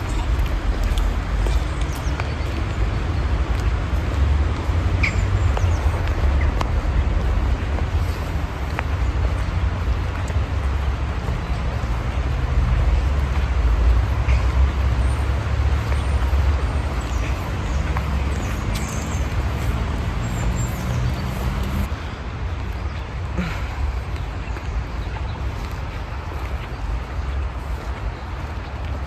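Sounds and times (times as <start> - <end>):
constant noise wash: 0.0 - 29.0
motor vehicle engine rumble: 0.0 - 29.0.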